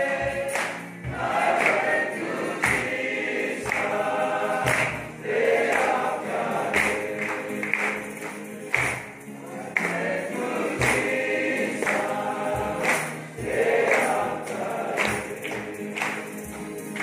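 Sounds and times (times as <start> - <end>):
group singing a hymn: 0.0 - 17.0
regular struck beat: 0.0 - 17.0.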